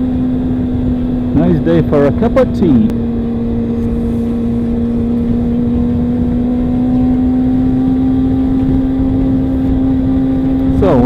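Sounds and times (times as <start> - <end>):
motorcycle engine cruising: 0.0 - 11.0
wind rush: 0.0 - 11.0.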